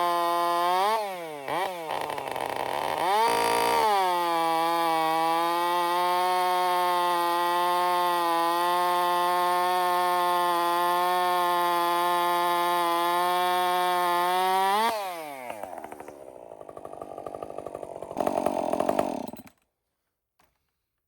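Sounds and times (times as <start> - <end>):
chainsaw running: 0.0 - 19.6.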